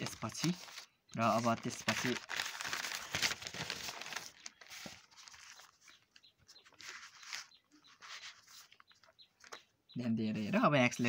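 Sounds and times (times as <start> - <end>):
paper rustling: 0.0 - 9.7.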